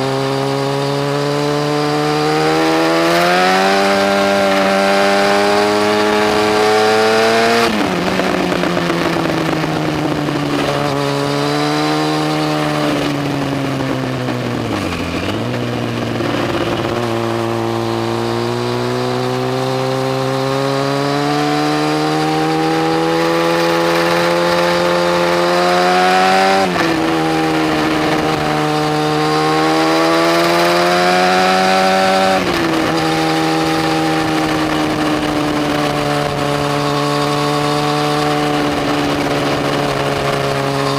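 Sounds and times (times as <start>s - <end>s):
motorcycle engine accelerating hard: 0.0s - 40.9s.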